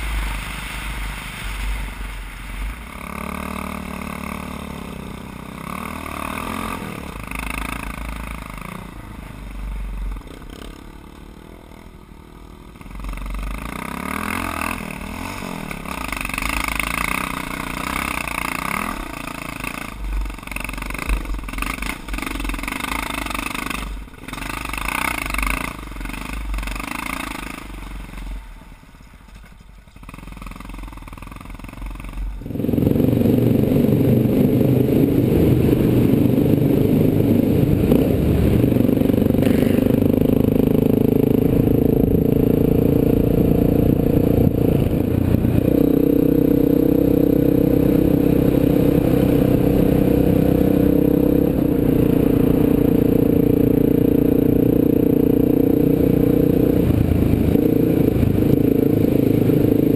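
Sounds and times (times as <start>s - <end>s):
motorcycle engines droning: 0.0s - 59.9s.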